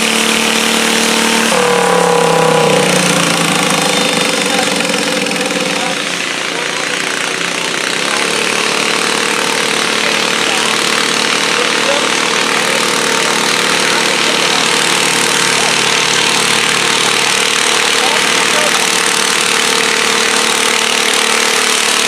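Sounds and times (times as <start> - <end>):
tractor engine running loud: 0.0 - 22.0.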